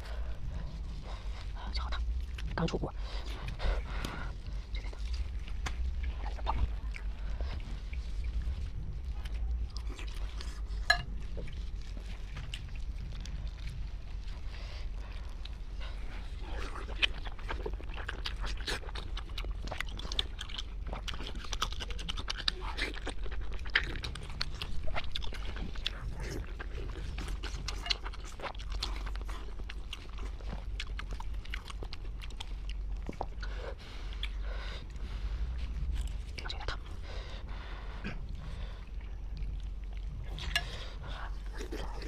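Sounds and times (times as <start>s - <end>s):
person chewing: 0.0s - 42.0s.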